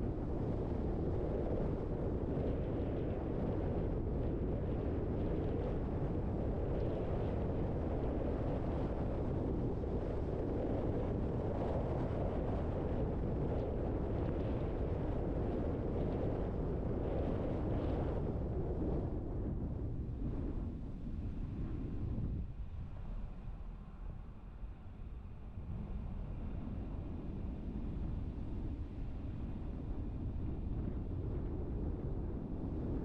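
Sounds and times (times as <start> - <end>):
car road and wind noise: 0.0 - 33.0.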